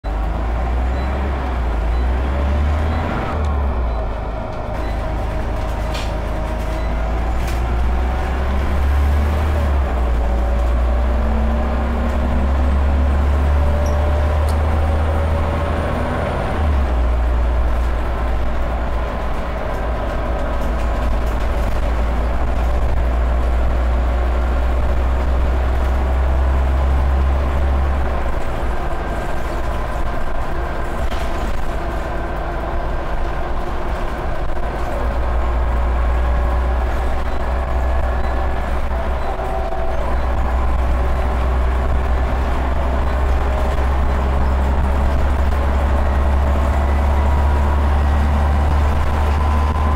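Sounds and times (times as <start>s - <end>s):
bus engine drone: 0.0s - 49.9s
road and tyre noise: 0.0s - 49.9s.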